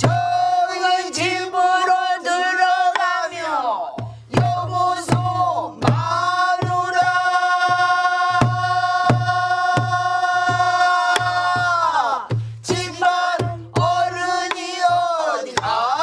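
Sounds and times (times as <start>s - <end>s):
other voices singing: 0.0s - 16.0s.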